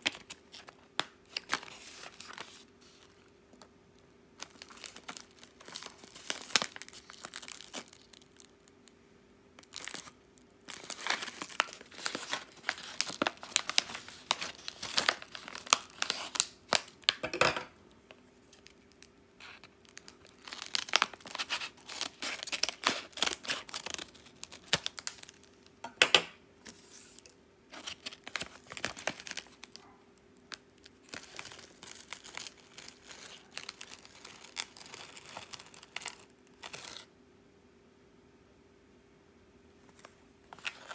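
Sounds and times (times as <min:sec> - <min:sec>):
plastic wrapper crinkling: 0:00.0 - 0:09.0, 0:09.6 - 0:17.3, 0:18.2 - 0:25.8, 0:26.7 - 0:37.1, 0:40.0 - 0:40.9.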